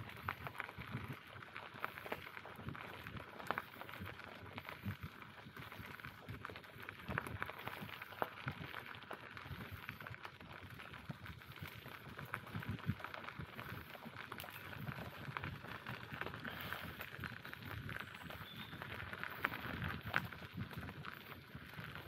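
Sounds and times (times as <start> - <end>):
bicycle tyres crunching on path: 0.0 - 22.0.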